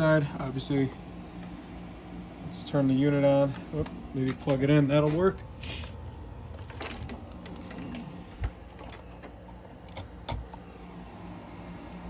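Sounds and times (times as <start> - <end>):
boiler motor hum: 0.0 - 12.0.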